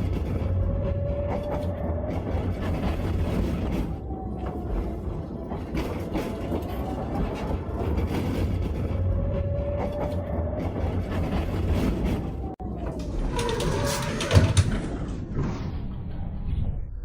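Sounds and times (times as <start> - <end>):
wheels clicking on rails: 0.0 - 15.3
tram rumbling: 0.0 - 17.0.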